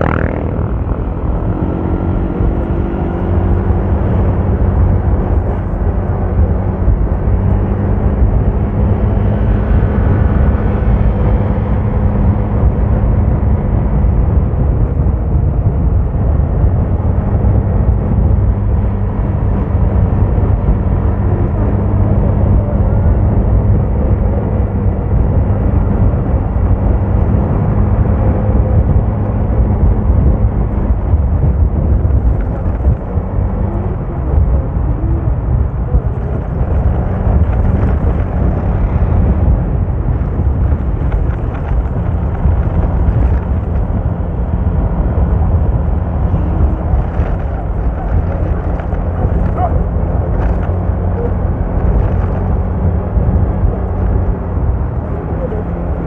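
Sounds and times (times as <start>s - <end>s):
road and wind rumble: 0.0s - 56.0s
vehicle engine drone: 0.0s - 56.0s.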